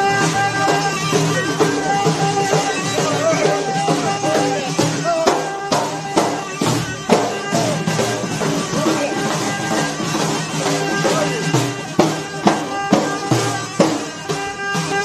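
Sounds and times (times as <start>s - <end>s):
frame drums beating: 0.0s - 15.0s
sharp drum strikes: 0.0s - 15.0s
wavering melody: 0.0s - 15.0s.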